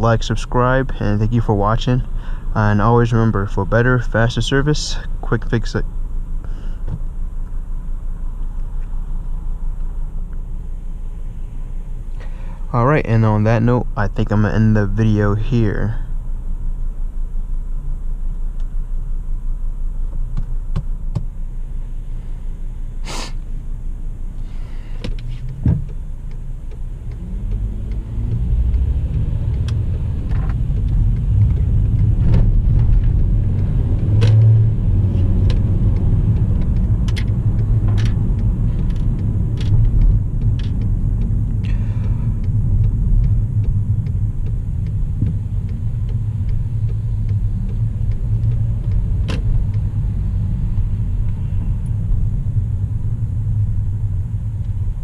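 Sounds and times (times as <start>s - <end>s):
car driving rumble: 0.0s - 55.0s.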